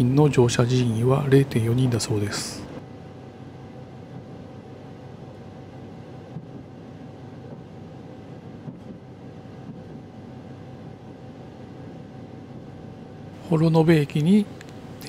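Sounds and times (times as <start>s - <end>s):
faint steady whine: 0.0s - 15.0s
train rumbling on rails: 0.0s - 15.0s.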